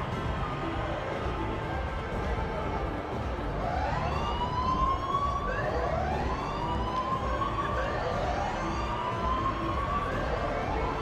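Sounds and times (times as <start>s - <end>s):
emergency vehicle siren wailing: 0.0s - 11.0s.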